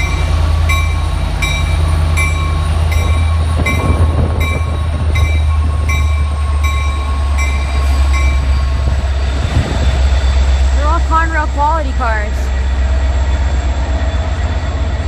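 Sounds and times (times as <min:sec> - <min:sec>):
locomotive engine low drone: 0:00.0 - 0:15.0.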